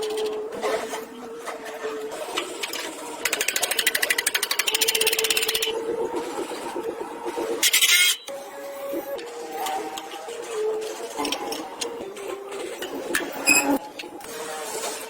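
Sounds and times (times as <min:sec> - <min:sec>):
small machine humming: 0:00.0 - 0:15.0.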